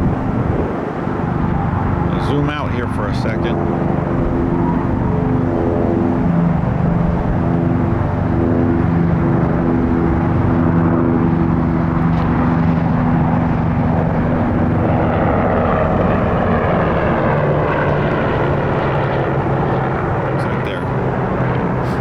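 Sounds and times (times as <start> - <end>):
large engine droning: 0.0 - 22.0.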